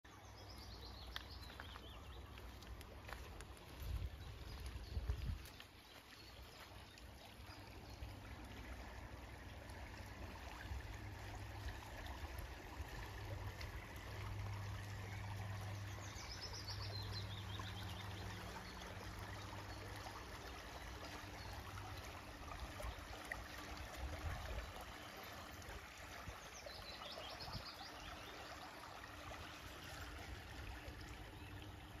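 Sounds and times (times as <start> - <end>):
stream running: 0.1 - 32.0.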